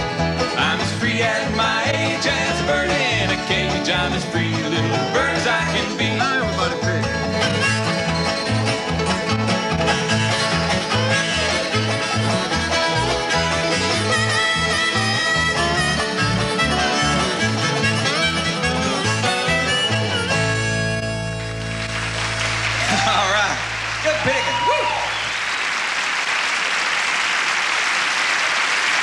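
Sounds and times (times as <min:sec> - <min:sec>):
banjo: 0:00.0 - 0:24.1
bass beat: 0:00.0 - 0:24.6
slide guitar: 0:00.0 - 0:25.3
acoustic guitar: 0:00.0 - 0:25.5.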